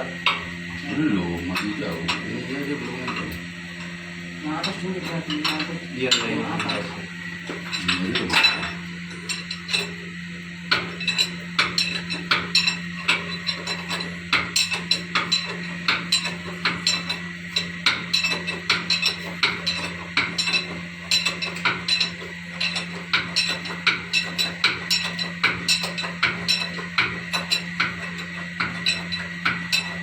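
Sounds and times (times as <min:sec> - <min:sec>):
steady low hum: 0:00.0 - 0:30.0
metal tools tapping and clinking: 0:04.6 - 0:10.0, 0:10.7 - 0:30.0.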